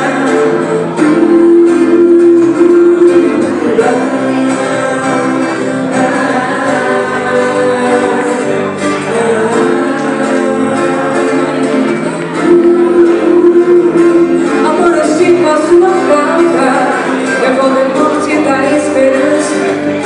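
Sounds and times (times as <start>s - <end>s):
electric guitar: 0.0s - 20.0s
strummed acoustic guitars: 0.0s - 20.0s
woman singing: 0.0s - 20.0s.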